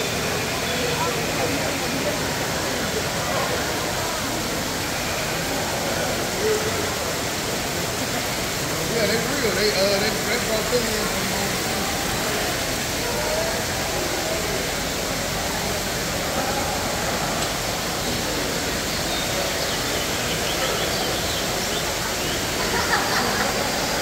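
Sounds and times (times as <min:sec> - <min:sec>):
fountain water splashing: 0:00.0 - 0:24.0
murmur of voices: 0:00.0 - 0:24.0.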